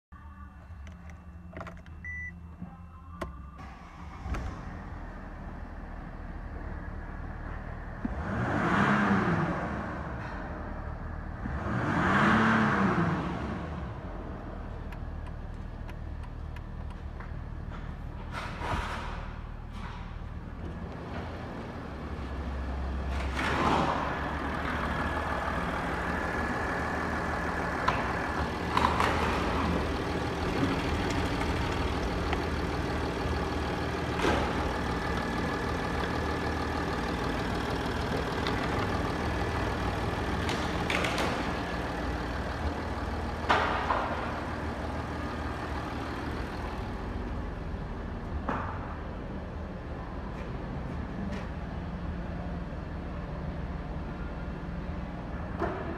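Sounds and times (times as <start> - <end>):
car engine revving and idling: 3.3 - 55.9.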